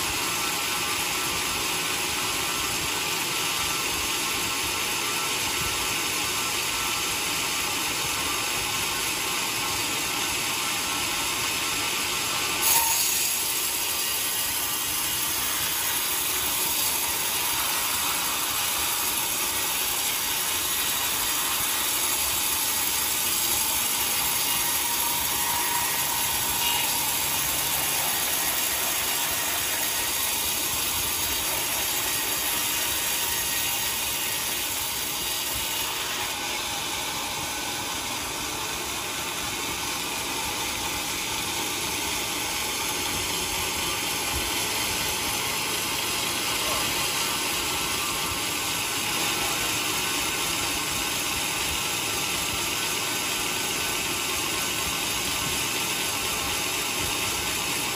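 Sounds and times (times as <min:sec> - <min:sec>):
band saw cutting log: 0:00.0 - 0:57.9.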